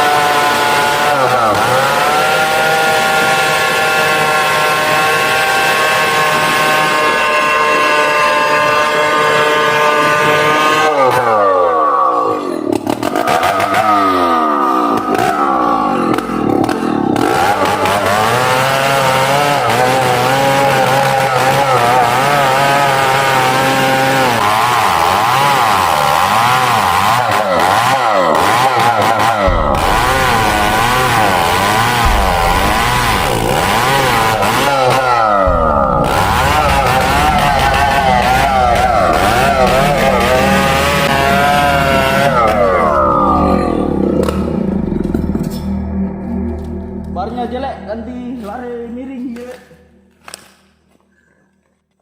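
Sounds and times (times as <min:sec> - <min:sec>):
chainsaw cutting tree trunk: 0:00.0 - 0:45.9.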